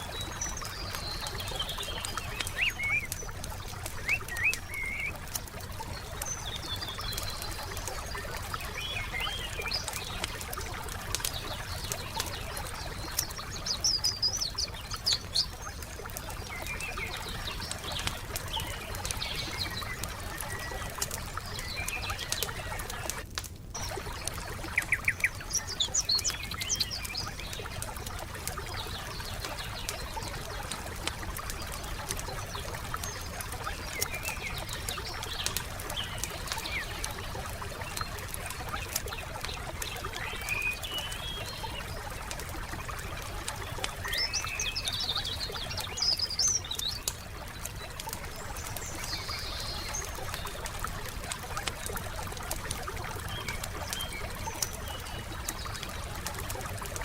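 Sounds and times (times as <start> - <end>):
songbirds chirping: 0.0 - 57.0
wood fire crackling: 0.0 - 57.0.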